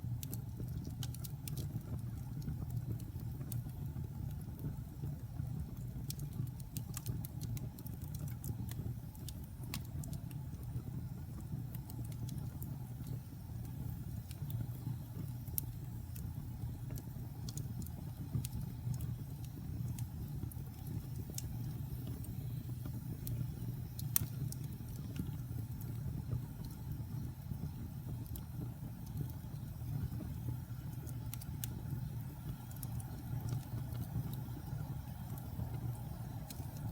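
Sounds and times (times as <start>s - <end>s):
fire crackling and popping: 0.0s - 36.9s
fire flames rumbling: 0.0s - 36.9s.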